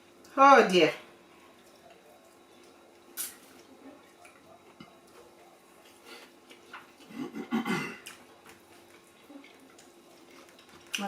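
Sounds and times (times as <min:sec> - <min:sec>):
wet eating sounds: 0:01.3 - 0:11.0.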